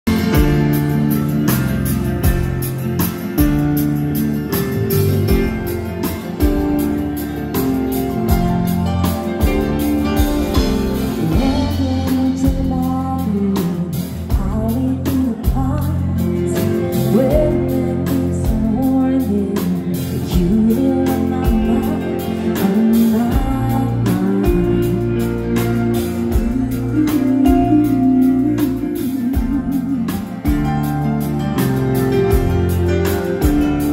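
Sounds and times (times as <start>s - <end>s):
acoustic guitar: 0.0s - 33.9s
bass guitar: 0.0s - 33.9s
drum kit: 0.0s - 33.9s
electric guitar: 0.0s - 33.9s
keyboard: 0.0s - 33.9s
person singing: 5.3s - 33.9s.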